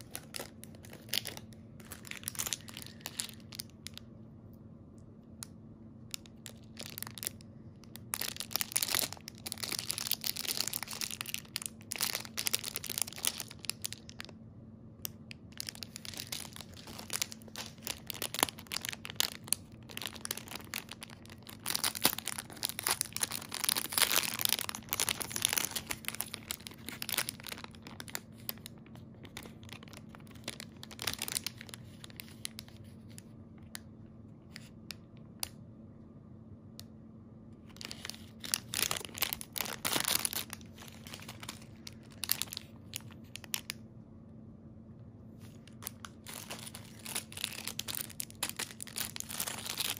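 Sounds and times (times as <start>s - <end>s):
plastic bags crinkling: 0.0s - 4.0s, 6.1s - 14.3s, 15.4s - 33.1s, 37.7s - 43.8s, 45.4s - 49.9s
faint steady hum: 0.0s - 49.9s.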